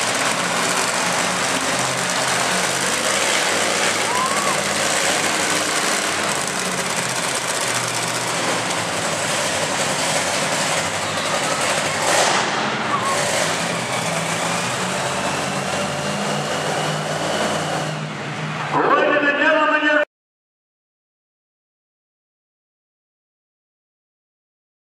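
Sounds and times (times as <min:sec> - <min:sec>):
truck engines rumbling: 0:00.0 - 0:20.0.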